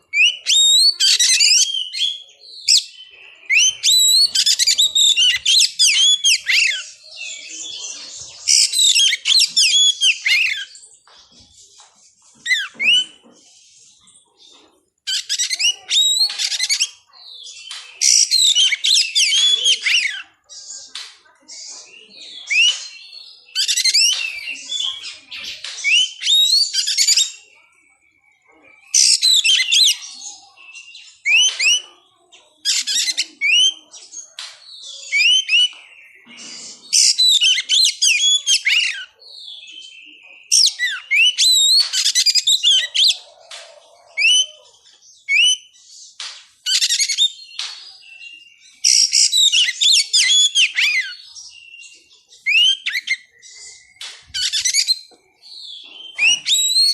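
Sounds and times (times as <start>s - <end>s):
bird singing whistled phrases: 0.0s - 10.8s, 12.4s - 13.2s, 15.1s - 20.2s, 21.7s - 31.9s, 34.7s - 43.3s, 44.2s - 45.8s, 46.7s - 56.9s.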